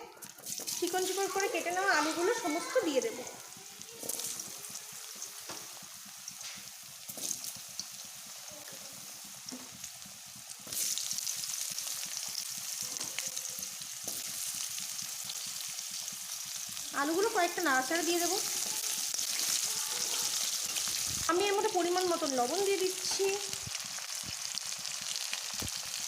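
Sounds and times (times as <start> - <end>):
potatoes sizzling in oil: 0.1 - 26.0.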